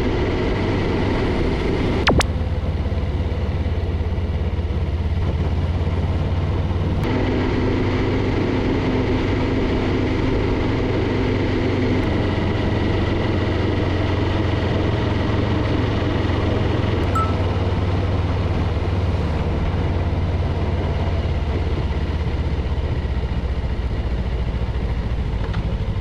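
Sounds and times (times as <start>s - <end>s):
car engine hum: 0.0s - 26.0s.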